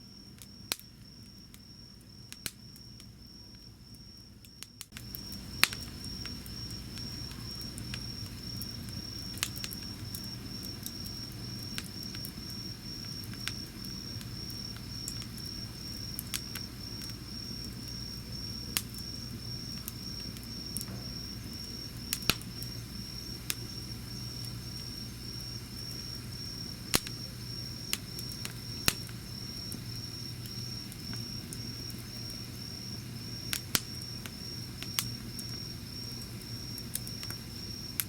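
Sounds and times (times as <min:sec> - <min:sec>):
insect chirping: 0:00.0 - 0:38.0
wood fire crackling: 0:00.2 - 0:38.0.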